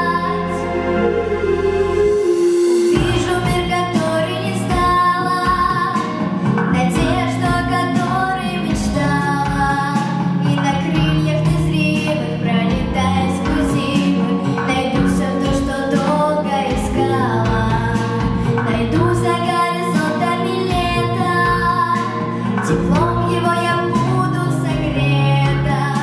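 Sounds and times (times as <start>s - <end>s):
girl singing into a microphone: 0.0s - 0.7s, 2.9s - 26.0s
instrumental accompaniment: 0.0s - 26.0s.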